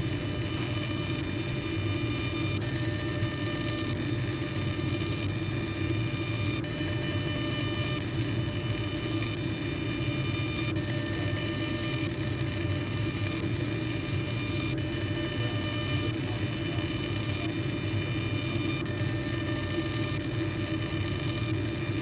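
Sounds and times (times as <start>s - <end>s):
laser engraving machine humming: 0.0s - 22.0s.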